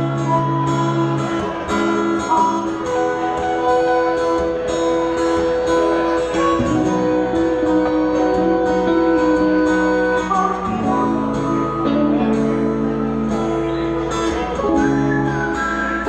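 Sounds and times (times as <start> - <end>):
acoustic guitar strumming: 0.0 - 16.0
harmonica held notes: 0.0 - 16.0.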